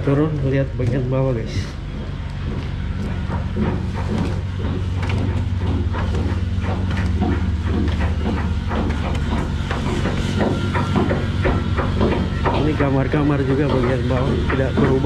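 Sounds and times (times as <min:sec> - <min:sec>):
low machine hum: 0:00.0 - 0:15.0
metal knocks and clanks: 0:00.4 - 0:15.0.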